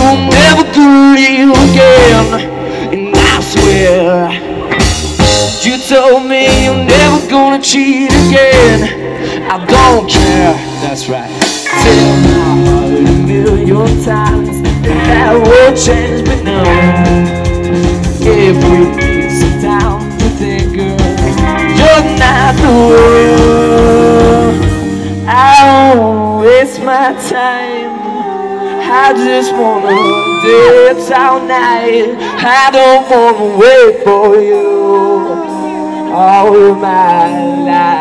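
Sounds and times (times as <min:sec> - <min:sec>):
drums: 0:00.0 - 0:27.5, 0:28.9 - 0:38.0
bass guitar: 0:00.0 - 0:38.0
electric guitars: 0:00.0 - 0:38.0.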